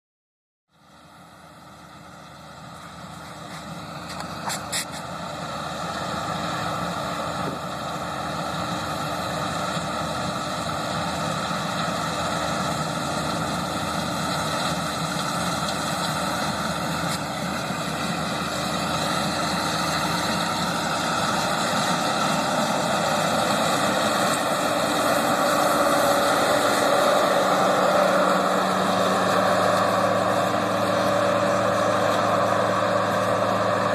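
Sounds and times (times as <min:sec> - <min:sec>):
combine harvester running: 0:00.7 - 0:33.9.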